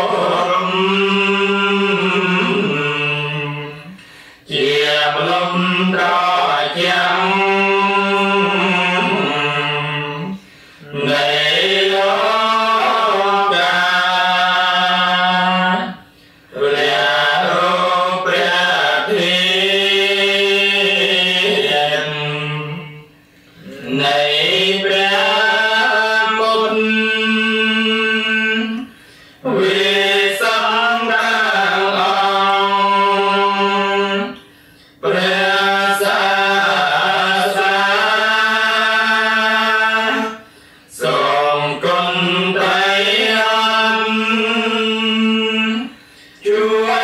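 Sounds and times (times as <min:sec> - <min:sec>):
monks chanting: 0:00.0 - 0:23.0, 0:23.6 - 0:47.0.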